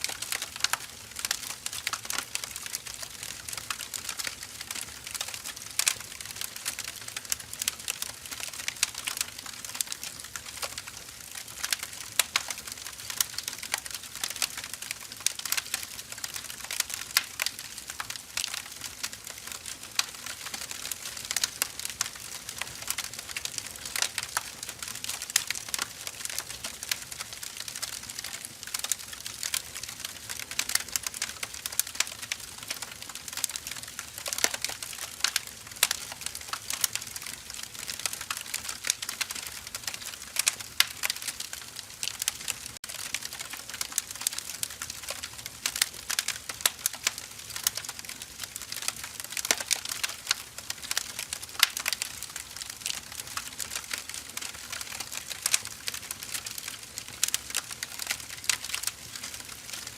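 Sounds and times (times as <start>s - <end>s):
firewood crackling: 0.0s - 59.9s.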